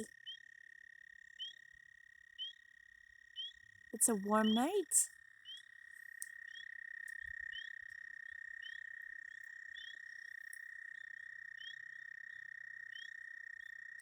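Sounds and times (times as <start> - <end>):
frogs peeping: 0.0 - 0.6, 1.2 - 14.0.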